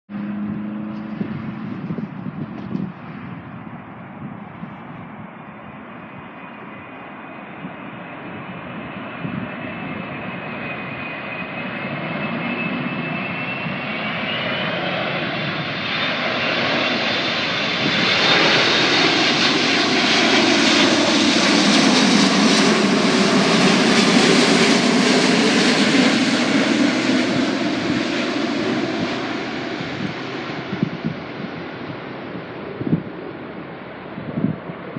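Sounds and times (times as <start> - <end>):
jet engines passing by: 0.1 - 34.9.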